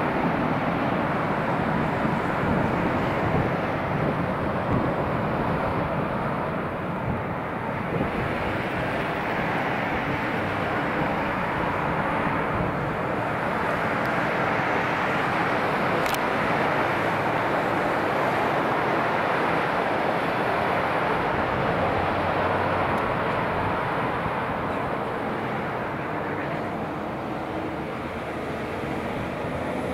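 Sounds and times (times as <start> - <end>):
jet engines rushing: 0.0 - 29.9.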